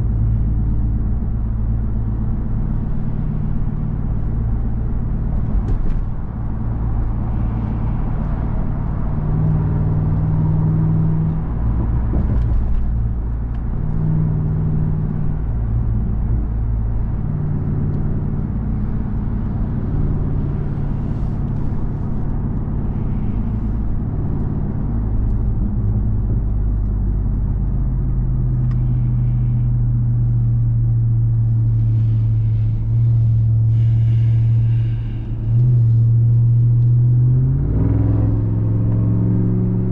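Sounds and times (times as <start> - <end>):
truck engine drone while driving: 0.0 - 39.9.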